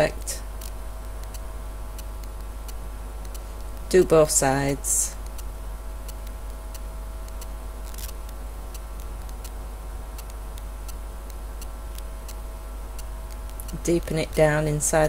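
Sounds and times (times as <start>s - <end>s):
low electrical hum: 0.0s - 15.0s
faint irregular ticks: 0.1s - 4.2s, 5.1s - 14.9s.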